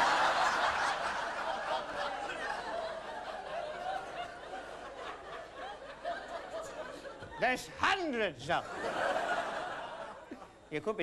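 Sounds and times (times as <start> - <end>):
audience laughing: 0.0 - 7.8, 8.5 - 10.6.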